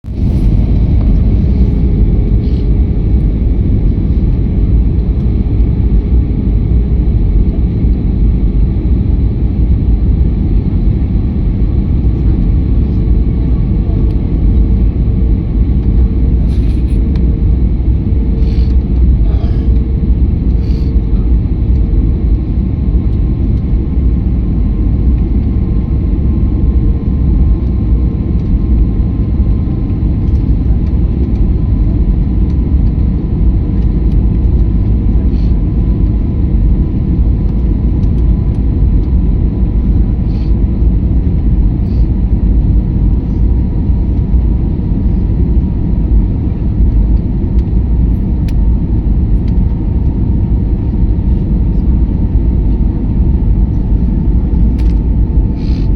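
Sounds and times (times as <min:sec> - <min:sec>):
faint pulsing hum: 0:00.0 - 0:55.9
jet cabin engine rumble: 0:00.0 - 0:55.9.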